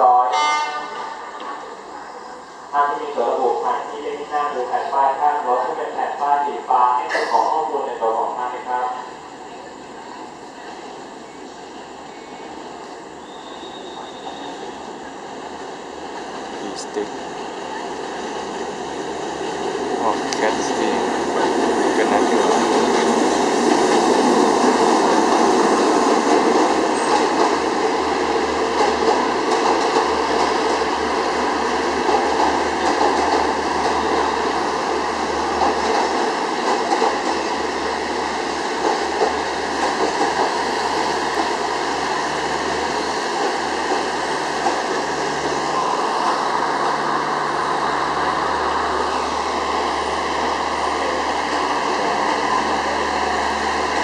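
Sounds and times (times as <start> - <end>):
train engine drone: 0.0 - 54.0.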